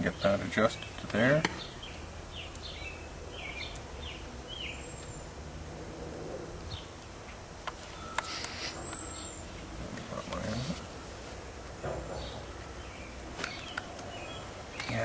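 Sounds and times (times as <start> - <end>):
small birds chirping: 0.0 - 5.4, 6.5 - 11.0, 12.1 - 15.0.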